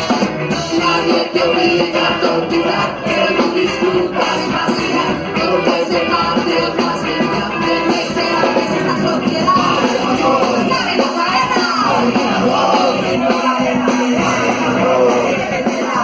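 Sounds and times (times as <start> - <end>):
drum kit beat: 0.0 - 16.0
electric guitar: 0.0 - 16.0
ska-rock band playing: 0.0 - 16.0.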